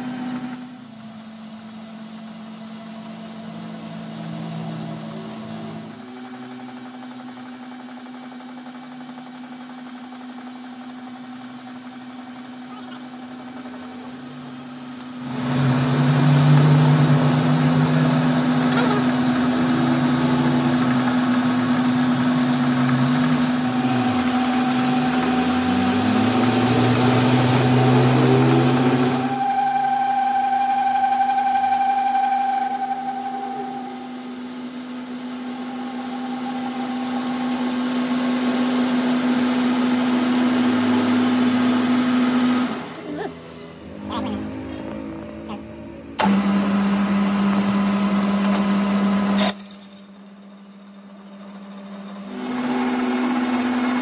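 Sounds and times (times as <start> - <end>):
lathe motor and spindle hum: 0.0 - 49.4, 50.2 - 54.0
lathe tool cutting metal: 0.0 - 54.0.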